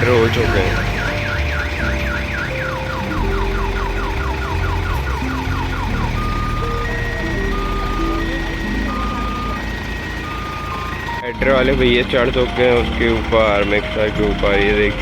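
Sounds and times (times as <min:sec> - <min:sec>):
diesel engine running: 0:00.0 - 0:15.0
multi-tone reversing horn: 0:00.0 - 0:15.0.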